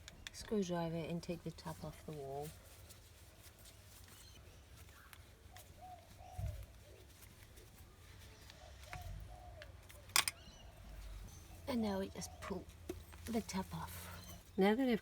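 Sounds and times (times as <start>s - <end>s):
faint pigeon cooing: 1.3s - 15.0s.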